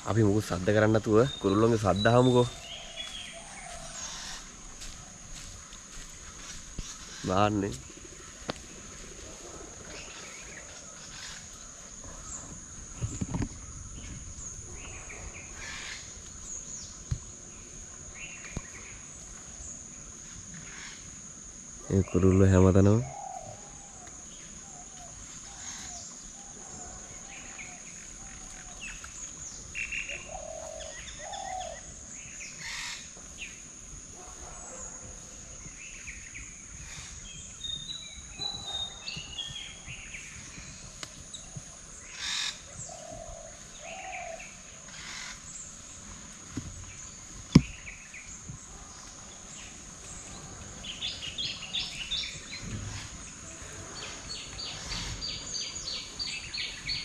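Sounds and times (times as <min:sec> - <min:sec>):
birds chirping and singing: 0:00.0 - 0:20.0, 0:21.9 - 0:57.0.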